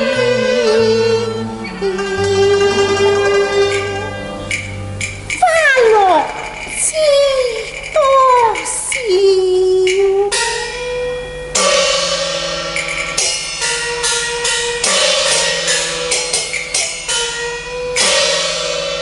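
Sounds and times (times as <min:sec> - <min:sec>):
cymbals striking: 0:00.0 - 0:19.0
sustained melodic instrument tones: 0:00.0 - 0:19.0.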